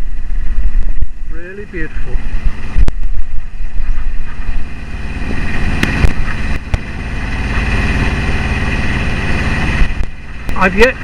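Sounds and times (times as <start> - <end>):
diesel boat engine running: 0.0 - 11.0.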